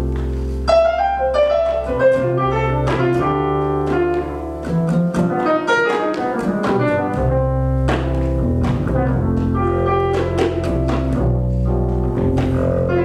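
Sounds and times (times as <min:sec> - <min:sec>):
acoustic bass: 0:00.0 - 0:13.0
acoustic piano: 0:00.0 - 0:13.0.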